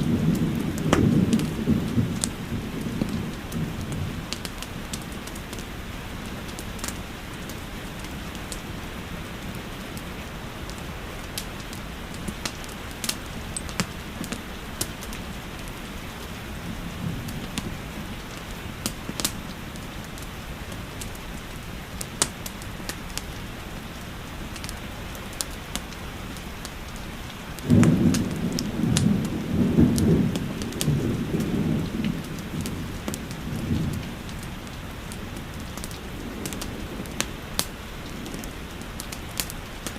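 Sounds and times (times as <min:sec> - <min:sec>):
thunder rumbling: 0:00.0 - 0:09.6, 0:10.6 - 0:21.6, 0:27.5 - 0:39.9
fireplace crackles: 0:00.0 - 0:39.9
steady rainfall: 0:00.0 - 0:39.9.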